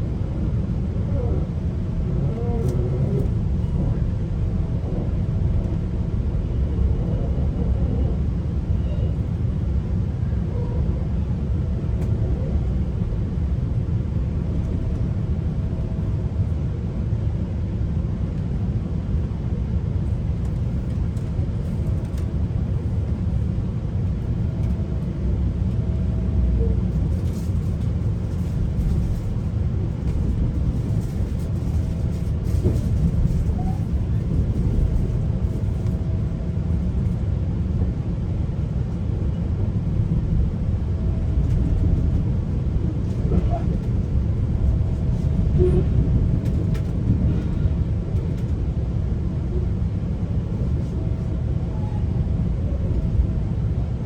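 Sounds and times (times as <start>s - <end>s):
train coach rumbling: 0.0s - 54.0s.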